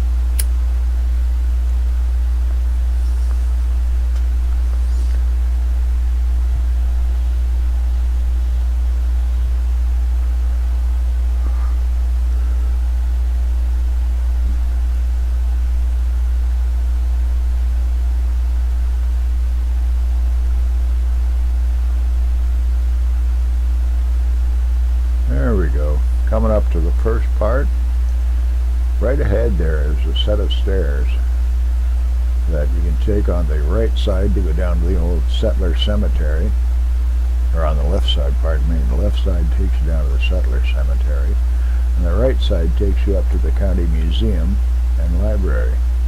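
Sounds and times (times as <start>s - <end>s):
faint steady tones: 0.0s - 46.0s
low hum of trike ride: 0.0s - 46.0s.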